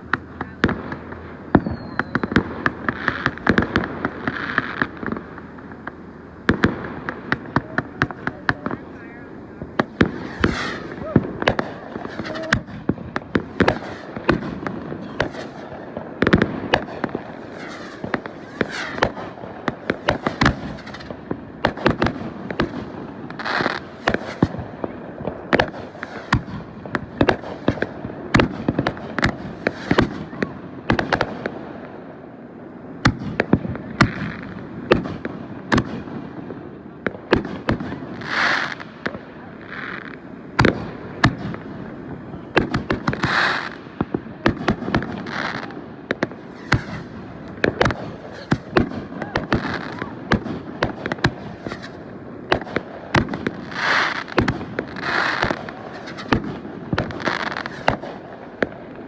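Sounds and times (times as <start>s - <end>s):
fireworks hissing: 0.0s - 30.3s, 37.0s - 59.0s
fireworks popping and banging: 0.0s - 32.3s, 33.0s - 59.0s.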